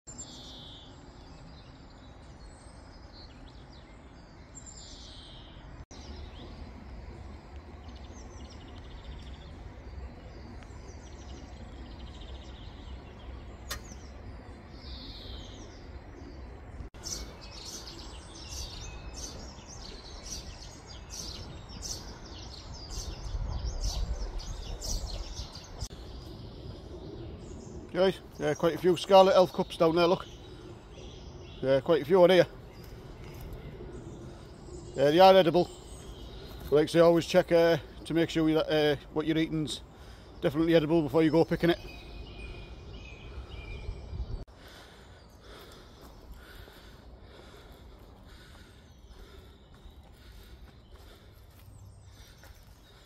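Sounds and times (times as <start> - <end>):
small birds chirping: 0.1 - 53.0.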